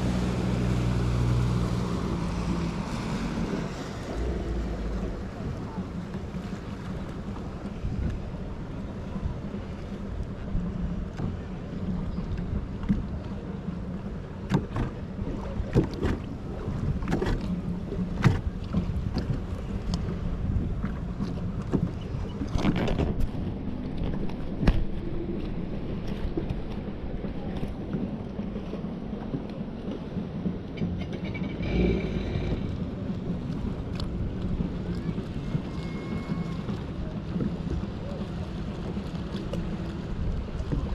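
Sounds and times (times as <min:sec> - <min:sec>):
boat engine running: 0:00.0 - 0:40.9
wind on microphone: 0:00.0 - 0:40.9.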